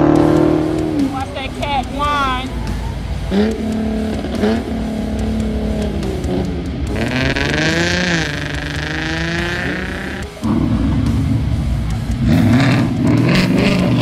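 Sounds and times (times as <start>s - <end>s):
car engine revving and accelerating: 0.0s - 14.0s.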